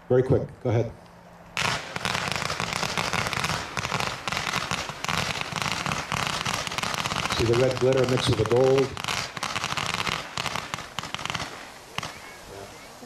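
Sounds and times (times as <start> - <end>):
firework cake launch shots: 1.6 - 12.3.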